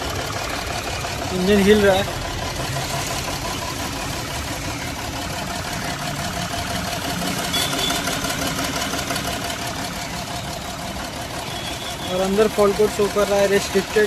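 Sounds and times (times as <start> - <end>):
diesel engine idling roughly: 0.0 - 14.0.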